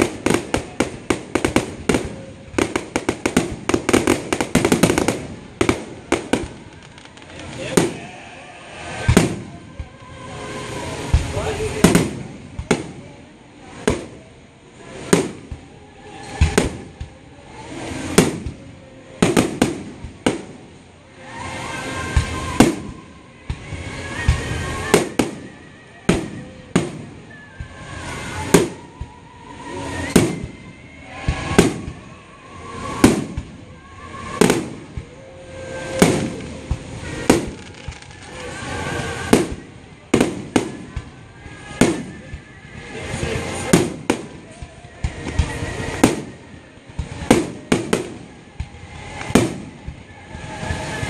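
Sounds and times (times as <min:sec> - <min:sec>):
fireworks bursting in booms: 0:00.0 - 0:10.0, 0:11.0 - 0:15.8, 0:16.4 - 0:17.2, 0:17.8 - 0:20.9, 0:21.5 - 0:29.3, 0:30.0 - 0:32.1, 0:32.8 - 0:51.0.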